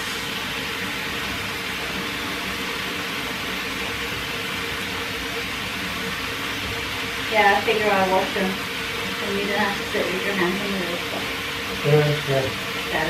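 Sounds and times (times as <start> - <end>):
shower water running into tub: 0.0 - 13.0.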